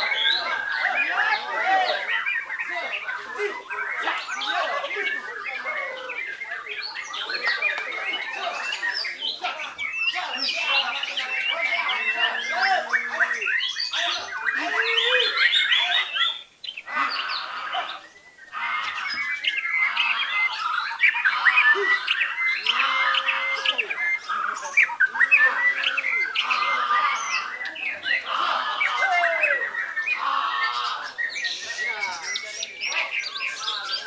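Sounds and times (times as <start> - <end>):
bird singing varied phrases: 0.0 - 34.0.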